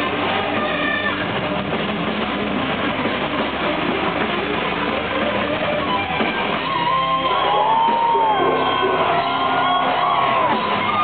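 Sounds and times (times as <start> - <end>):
live band with electric guitar: 0.0 - 11.0.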